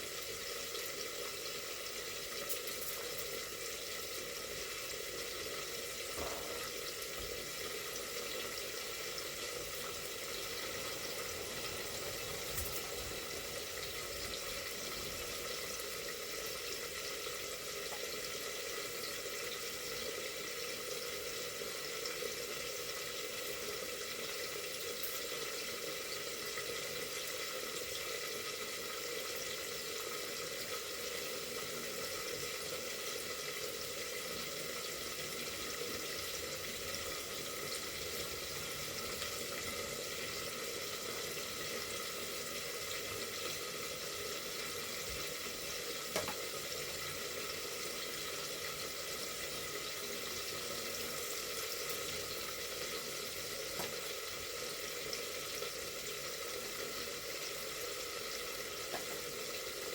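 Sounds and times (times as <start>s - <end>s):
food sizzling in a pot: 0.0s - 59.9s.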